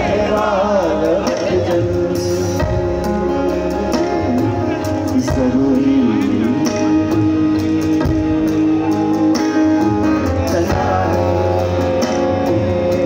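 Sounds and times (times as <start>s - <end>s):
live band playing guitars and drums: 0.0s - 13.0s.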